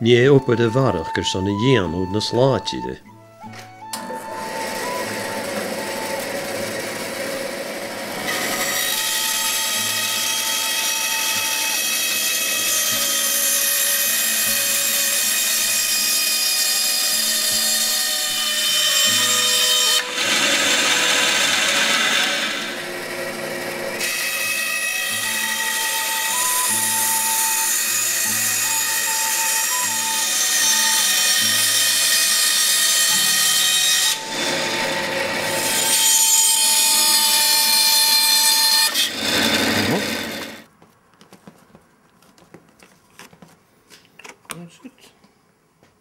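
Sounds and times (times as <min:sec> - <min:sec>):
band saw cutting wood: 0:03.8 - 0:40.7.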